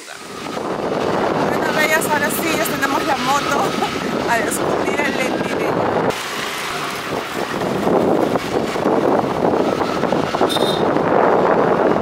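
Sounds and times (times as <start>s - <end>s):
scooter engine running: 0.0s - 12.0s
tyres on road: 0.0s - 12.0s
wind on microphone: 0.0s - 12.0s.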